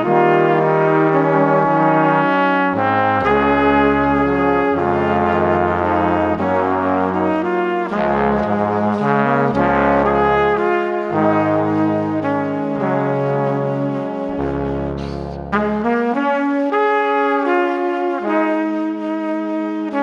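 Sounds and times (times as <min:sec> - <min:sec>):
background music with bass line: 0:00.0 - 0:16.6.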